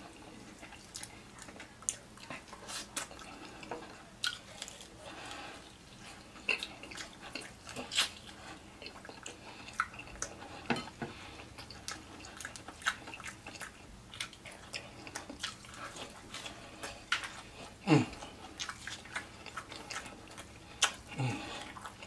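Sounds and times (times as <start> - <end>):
person chewing and biting: 0.5 - 22.0.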